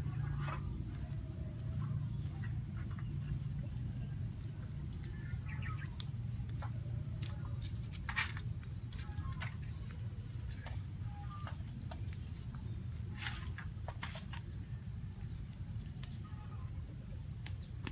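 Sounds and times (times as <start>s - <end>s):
low hum: 0.0s - 17.9s
twig fire crackling and popping: 0.7s - 10.6s, 11.6s - 17.9s.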